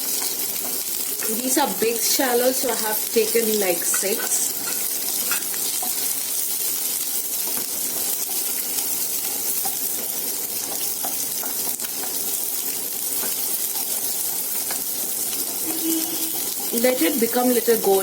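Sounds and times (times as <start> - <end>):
food sizzling in oil: 0.0 - 18.0
oil popping and crackling: 0.0 - 18.0.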